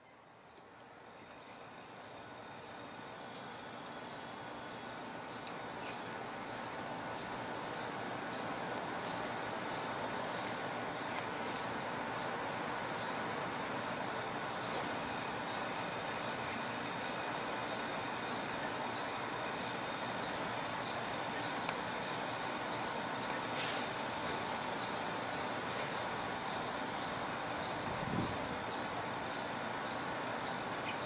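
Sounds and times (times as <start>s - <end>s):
outdoor hum: 0.0s - 31.0s.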